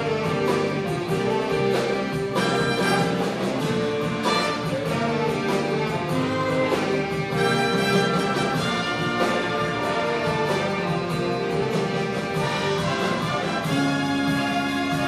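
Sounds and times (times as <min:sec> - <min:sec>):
saxophones: 0:00.0 - 0:15.0
trumpets: 0:00.0 - 0:15.0
violins: 0:00.0 - 0:15.0.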